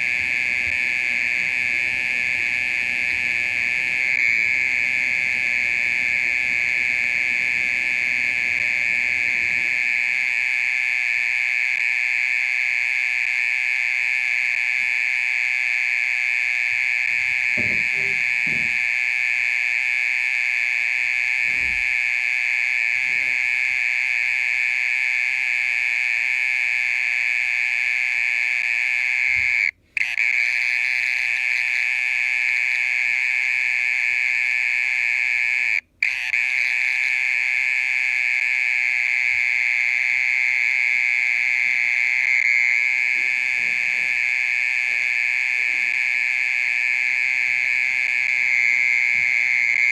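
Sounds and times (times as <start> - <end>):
mole cricket trilling: 0.0 - 49.9.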